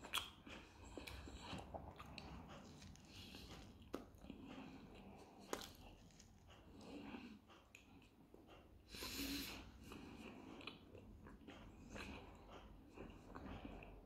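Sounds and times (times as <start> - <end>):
man chewing food: 0.0 - 14.0.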